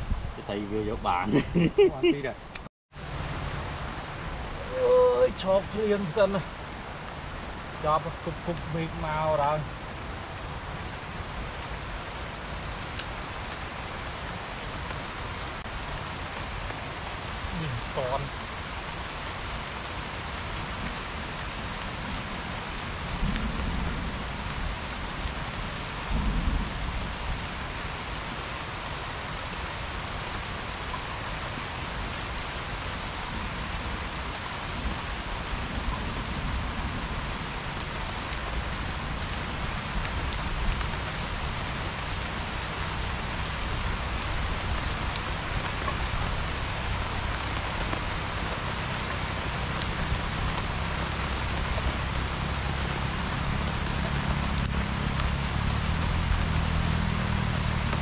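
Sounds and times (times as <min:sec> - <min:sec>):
low rumbles: 0:00.0 - 0:58.0
steady rain hiss: 0:00.0 - 0:58.0.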